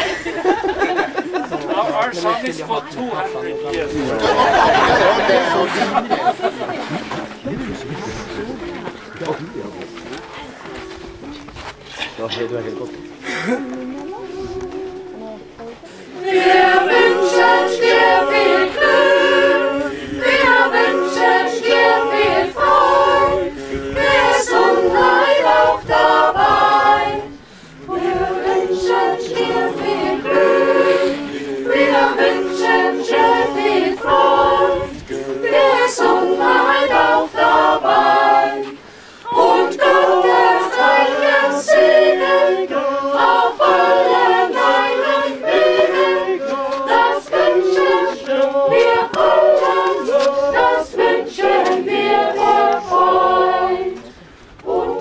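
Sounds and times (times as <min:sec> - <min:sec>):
mixed choir singing a cappella: 0:00.0 - 0:55.0.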